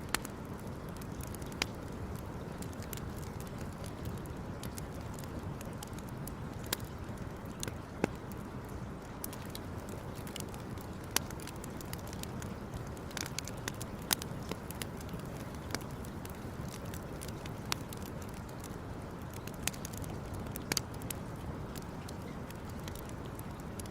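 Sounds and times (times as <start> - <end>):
campfire crackling and popping: 0.0 - 23.9.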